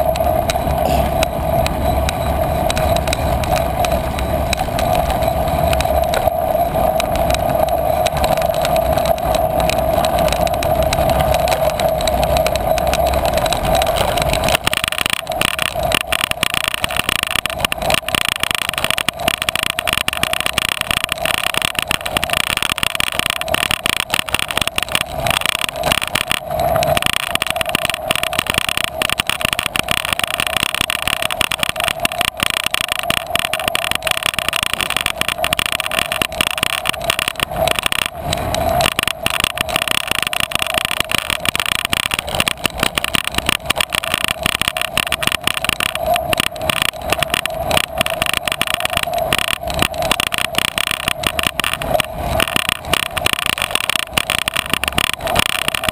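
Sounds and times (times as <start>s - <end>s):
bicycle rattling on rough ground: 0.0s - 55.9s
bicycle tyre hum: 0.0s - 55.9s.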